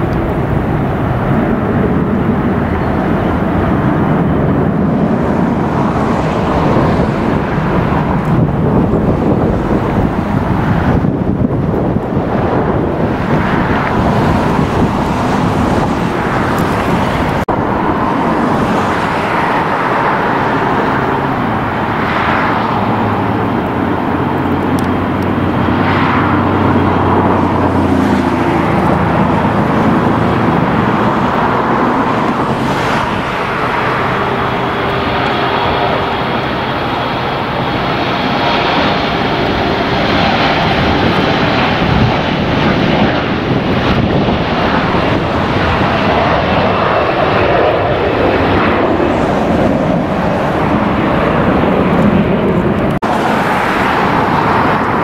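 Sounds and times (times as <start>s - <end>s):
faint engine whine: 0.0s - 55.0s
jet engines roaring: 0.0s - 55.0s.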